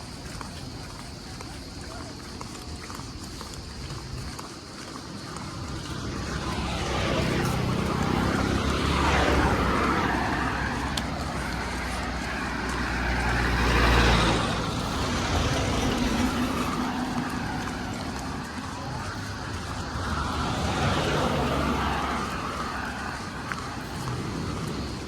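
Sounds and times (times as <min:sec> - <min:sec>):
vehicles driving past: 0:00.0 - 0:25.0.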